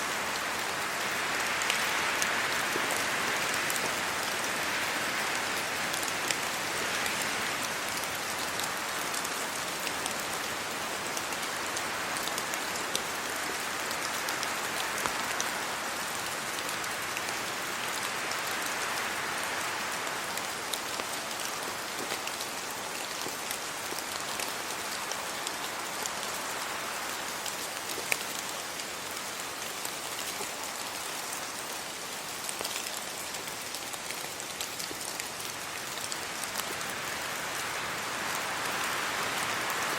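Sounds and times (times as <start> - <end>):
sharp ticks of raindrops: 0.0 - 39.9
steady rain on leaves: 0.0 - 39.9.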